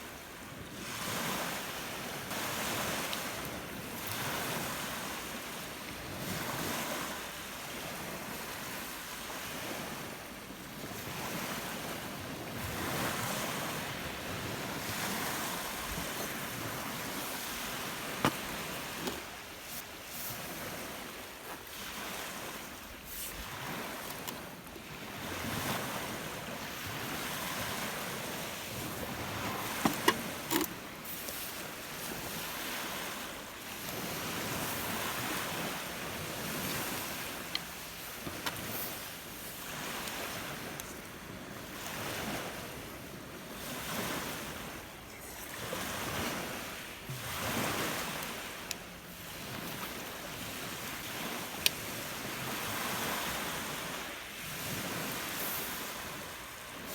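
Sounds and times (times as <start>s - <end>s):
waves breaking on shore: 0.0s - 56.9s.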